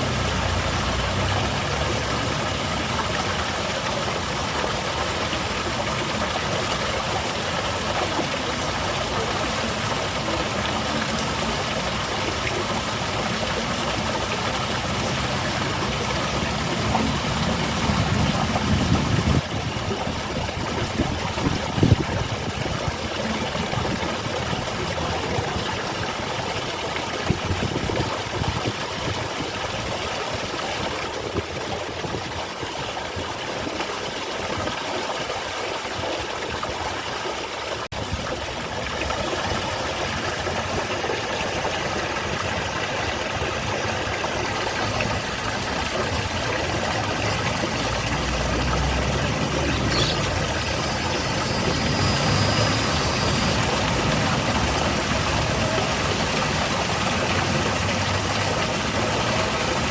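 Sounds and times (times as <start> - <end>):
waterfall pouring: 0.0 - 59.9.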